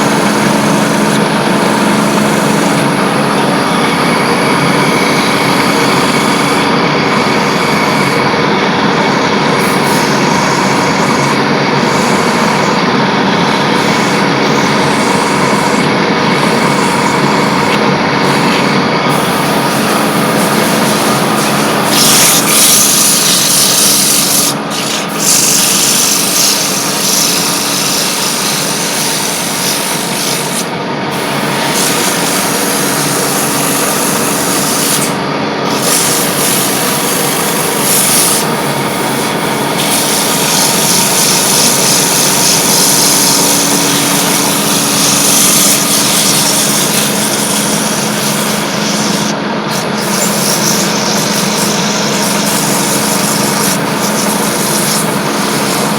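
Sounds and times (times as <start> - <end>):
cutter shaving spinning wood: 0.0 - 55.9
lathe motor running: 0.0 - 55.9.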